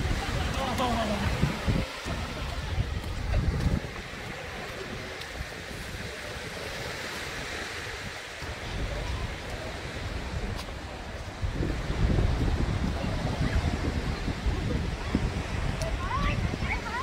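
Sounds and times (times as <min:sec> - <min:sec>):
waves washing onto beach: 0:00.0 - 0:17.0
wind buffeting microphone: 0:00.0 - 0:17.0.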